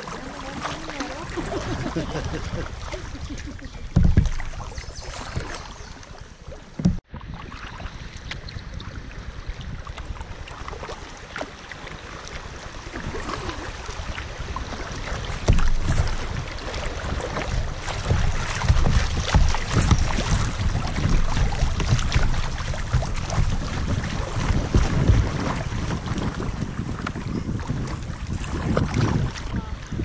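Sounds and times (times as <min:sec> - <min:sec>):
creek water rushing and splashing: 0:00.0 - 0:30.0
wind buffeting microphone: 0:00.0 - 0:30.0.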